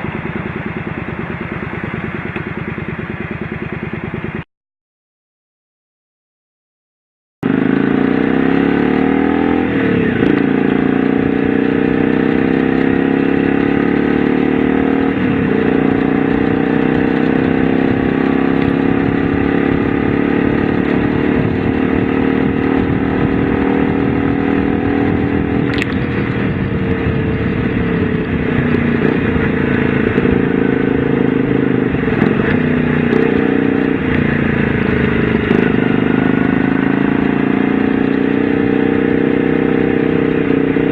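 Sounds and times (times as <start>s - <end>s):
motorcycle engine running: 0.0s - 4.5s, 7.4s - 40.9s.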